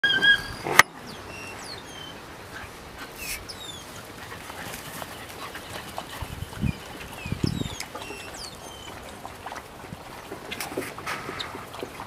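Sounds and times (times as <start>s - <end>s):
puppies whimpering: 0.0s - 9.7s.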